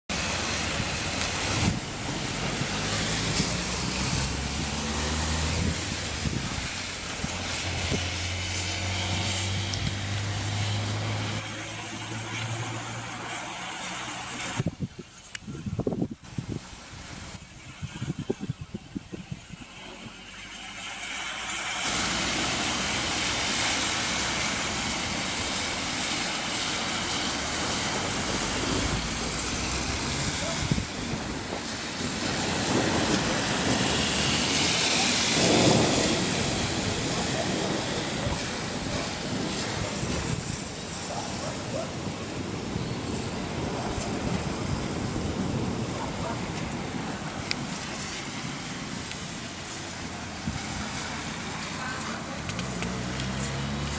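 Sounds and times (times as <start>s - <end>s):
steady rain hiss: 0.1s - 53.9s
thunder rumbling: 0.1s - 53.9s
vehicle engine humming: 0.1s - 53.9s.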